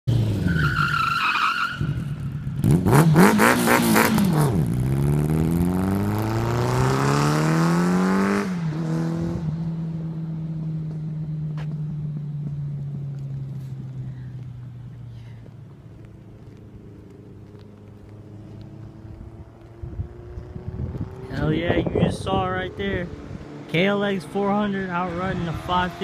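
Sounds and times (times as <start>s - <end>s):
motorcycle engine revving: 1.8s - 14.4s, 17.4s - 26.0s.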